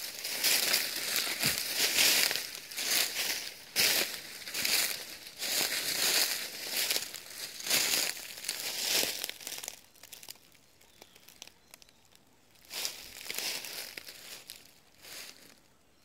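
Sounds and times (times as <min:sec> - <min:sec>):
footsteps crunching dry leaves: 0:00.0 - 0:12.0, 0:12.6 - 0:15.6
faint leaf crackles: 0:00.0 - 0:15.7.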